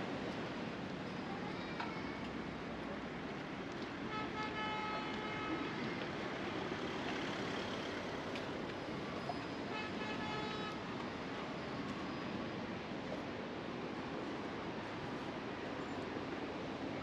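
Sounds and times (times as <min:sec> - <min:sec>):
road traffic: 0:00.1 - 0:17.0.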